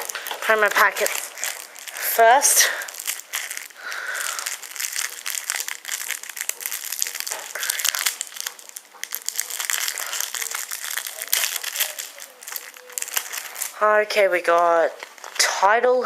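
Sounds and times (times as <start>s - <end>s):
foil wrapper crinkling: 0.0s - 15.5s.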